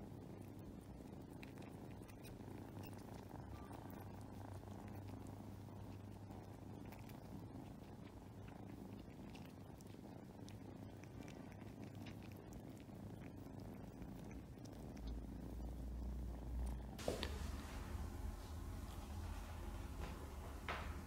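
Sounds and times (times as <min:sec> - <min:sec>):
kitten purring: 0:00.0 - 0:21.0
kittens licking: 0:00.2 - 0:21.0.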